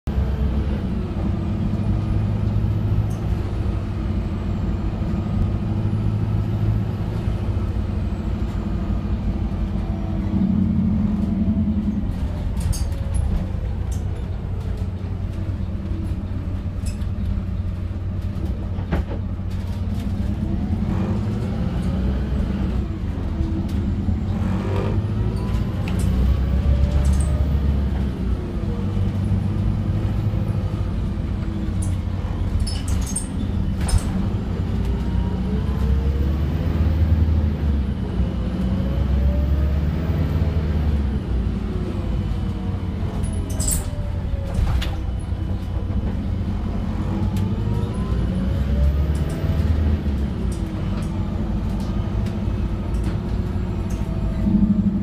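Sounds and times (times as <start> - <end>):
bus drivetrain hum and whine: 0.0 - 55.0.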